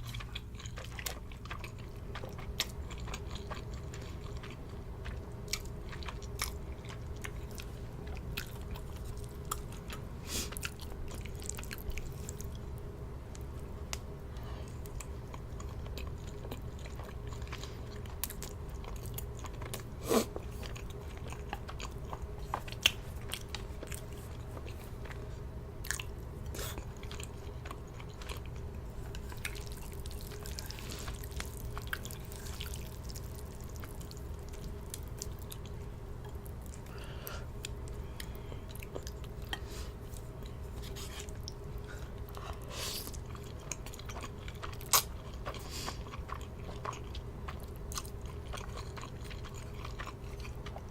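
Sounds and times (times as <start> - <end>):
person chewing noodles: 0.0 - 50.9
steady low hum: 0.0 - 50.9.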